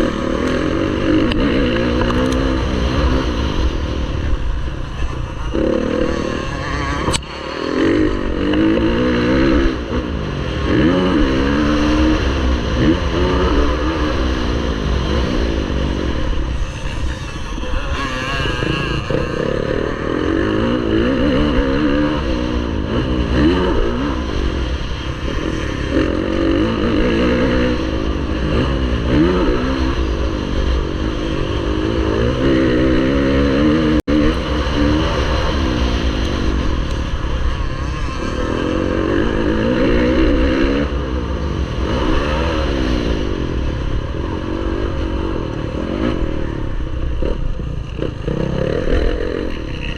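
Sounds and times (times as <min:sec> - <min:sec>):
motocross bike engine racing: 0:00.0 - 0:49.9.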